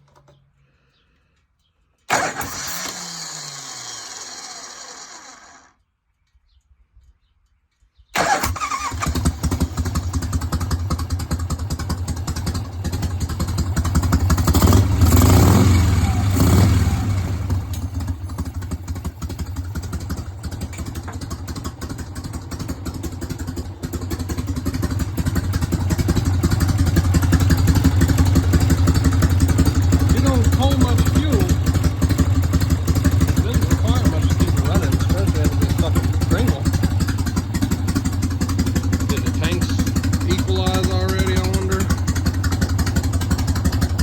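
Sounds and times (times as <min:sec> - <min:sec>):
motorcycle engine starting and idling: 0:01.6 - 0:05.9, 0:08.1 - 0:44.0.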